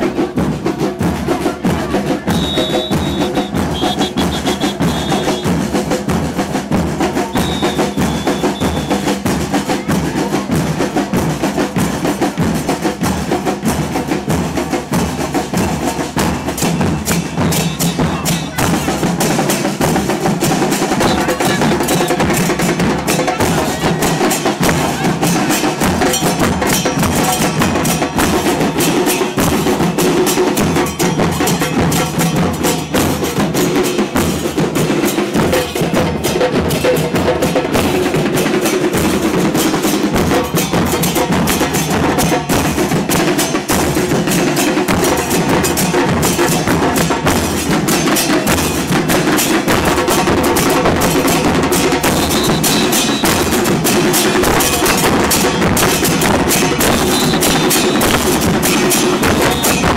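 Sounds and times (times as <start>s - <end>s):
percussion band drumming: 0.0s - 59.9s.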